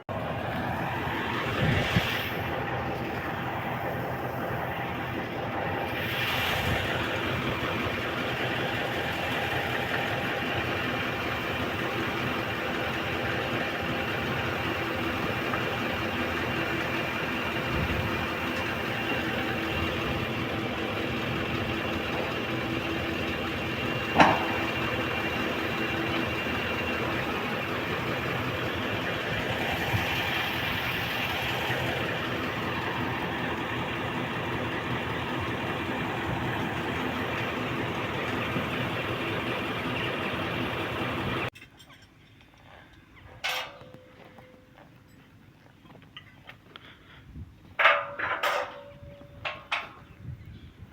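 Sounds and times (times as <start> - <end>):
engine humming: 0.0 - 41.6.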